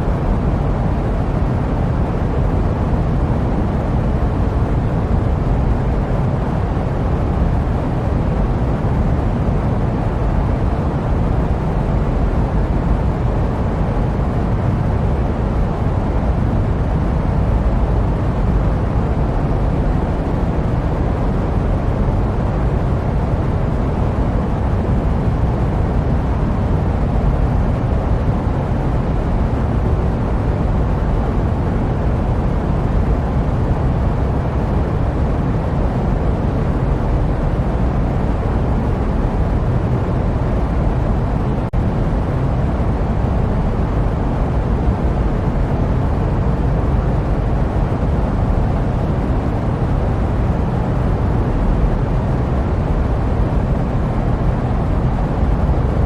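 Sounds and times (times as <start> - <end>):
jet aircraft rumbling: 0.0 - 56.0.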